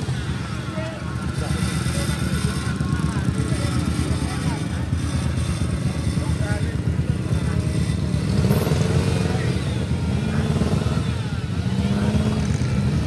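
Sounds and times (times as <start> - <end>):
vehicle engine revving: 0.0 - 13.0.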